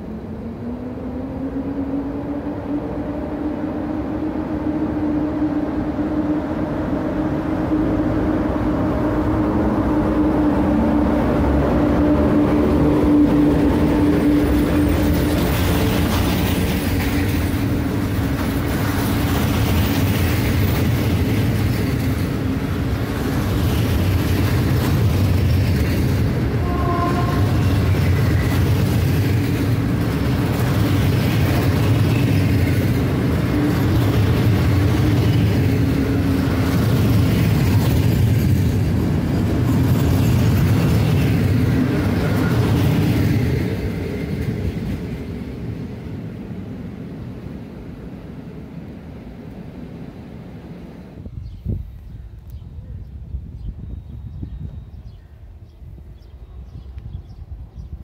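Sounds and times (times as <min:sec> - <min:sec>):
electric locomotive hum: 0:00.0 - 0:58.0
train wheels rumbling on rails: 0:00.0 - 0:58.0.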